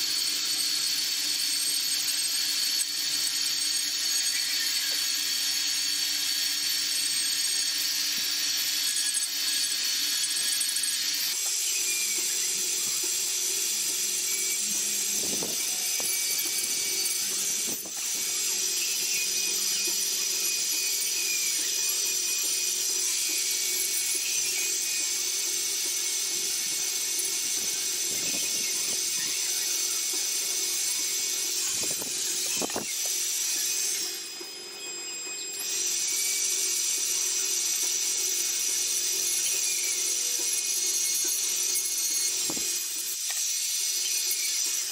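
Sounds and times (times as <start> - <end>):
rotary tool grinding into wood: 0.0 - 44.9.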